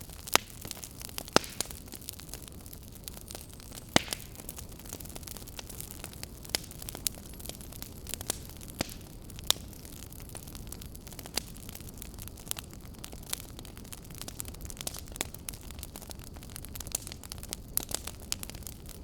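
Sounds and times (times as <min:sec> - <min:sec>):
fire pops and snaps: 0:00.0 - 0:19.0
low rumble of burning: 0:00.0 - 0:19.0.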